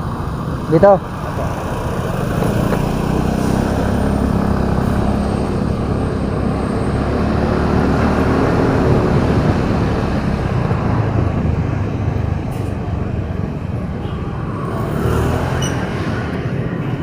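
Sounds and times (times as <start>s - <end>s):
road and wind rumble: 0.0s - 17.0s
vehicle engine humming: 0.0s - 17.0s.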